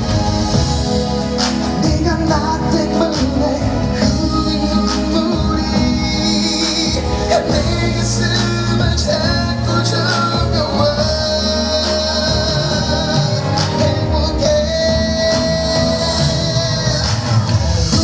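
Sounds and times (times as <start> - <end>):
band playing pop music: 0.0 - 18.0
person singing: 0.0 - 18.0.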